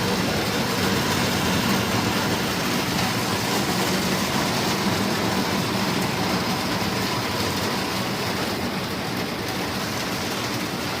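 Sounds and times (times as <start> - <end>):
hail and heavy rain: 0.0 - 11.0.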